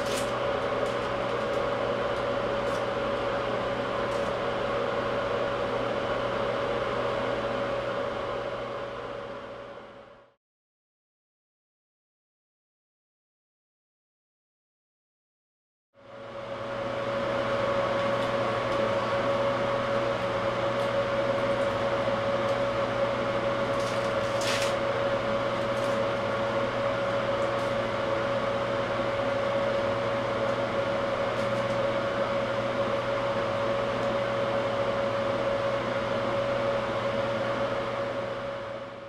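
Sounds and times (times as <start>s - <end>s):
exhaust fan humming: 0.0s - 10.4s, 16.0s - 39.0s.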